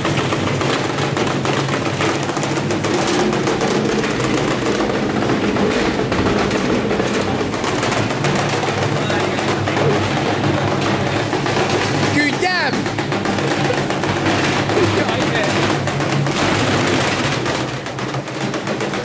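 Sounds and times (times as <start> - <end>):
unbalanced washing machine knocking: 0.0 - 19.0.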